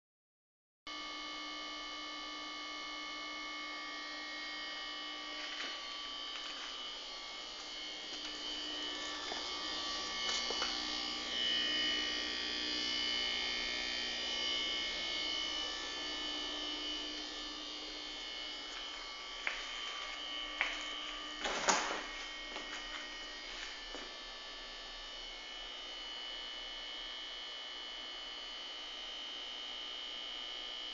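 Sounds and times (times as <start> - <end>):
refrigerator compressor hum: 0.9 - 30.9.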